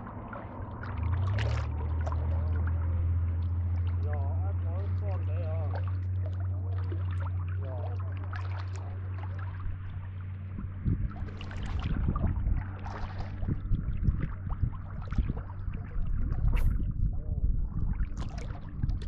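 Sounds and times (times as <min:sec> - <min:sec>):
water splashing: 0:00.0 - 0:16.9, 0:17.8 - 0:19.0
boat engine hum: 0:00.0 - 0:19.0
low rumbling: 0:00.0 - 0:19.0.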